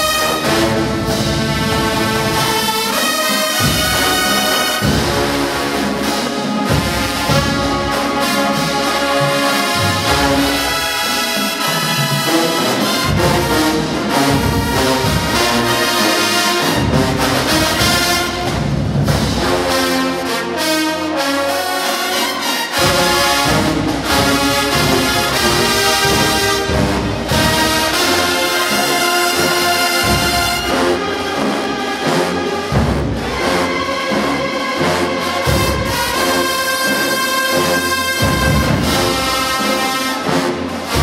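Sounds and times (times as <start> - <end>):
marching band brass playing: 0.0 - 41.0.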